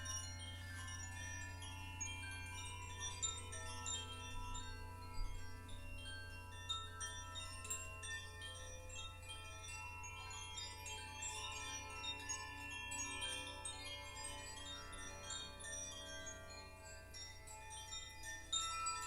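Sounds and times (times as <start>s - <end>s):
chimes tinkling: 0.0s - 19.0s.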